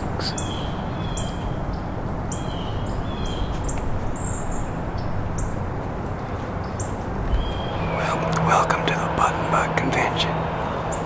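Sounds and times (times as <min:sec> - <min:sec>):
low background rumble: 0:00.0 - 0:11.0
small songbirds chirping: 0:00.0 - 0:11.0.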